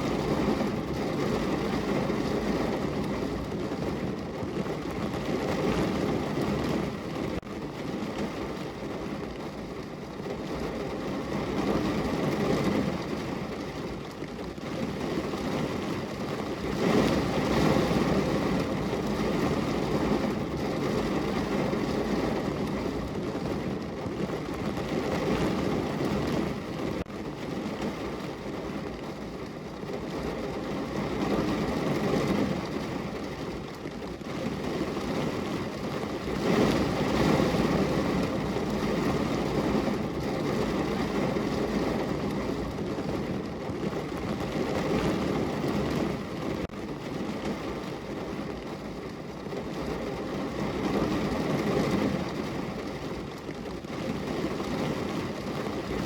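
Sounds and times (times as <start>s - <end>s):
heavy rain drumming on car roof: 0.0s - 56.0s.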